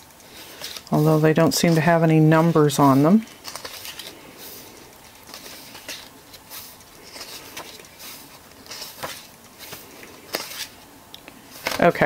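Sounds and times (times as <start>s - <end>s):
paper pages turning: 0.2s - 10.8s, 11.4s - 12.0s.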